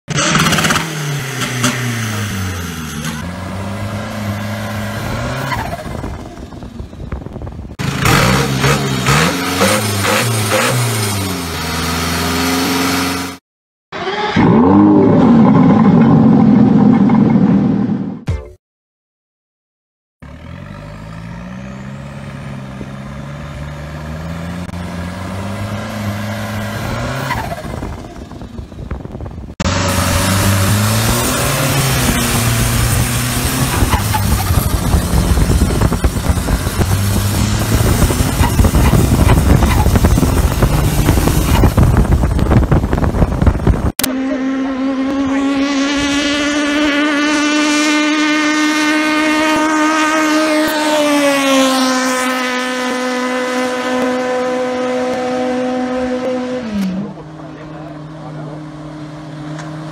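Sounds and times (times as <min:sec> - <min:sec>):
engine revving with rising pitch: 0:00.1 - 0:06.6, 0:07.7 - 0:18.2, 0:20.2 - 0:28.5, 0:29.5 - 0:59.9.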